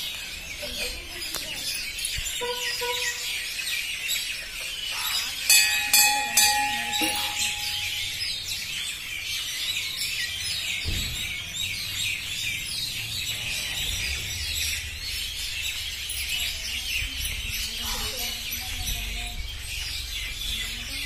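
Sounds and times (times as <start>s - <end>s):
flock of birds chirping: 0.0s - 21.0s.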